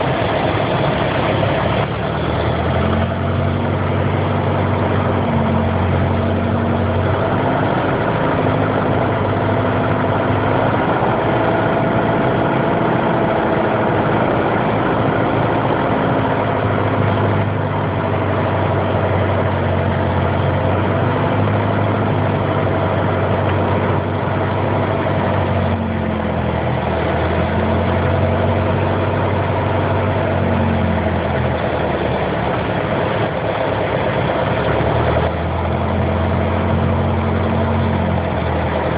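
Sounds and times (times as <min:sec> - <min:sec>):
light aircraft piston engine running: 0:00.0 - 0:38.9.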